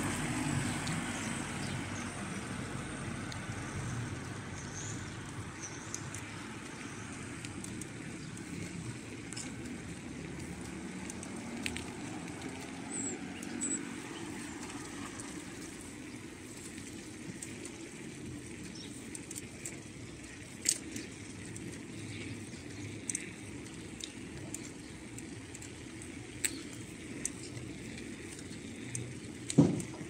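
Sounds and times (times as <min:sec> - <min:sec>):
bike rattling clicks: 0:00.0 - 0:30.0
bike rolling over rough tarmac: 0:00.0 - 0:30.0.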